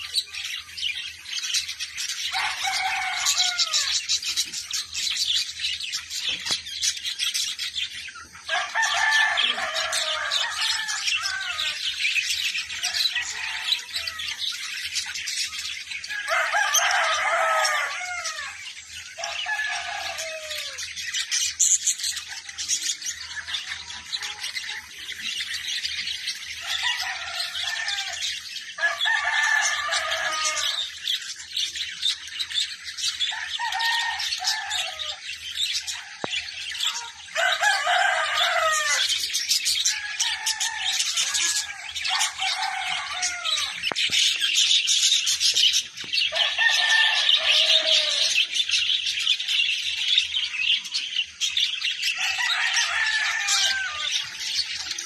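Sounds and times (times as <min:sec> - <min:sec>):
budgerigars chattering and chirping: 0:00.0 - 0:55.0.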